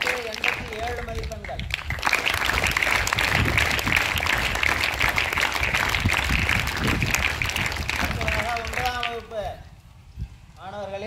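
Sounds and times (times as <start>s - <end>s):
children clapping: 0.0s - 9.3s.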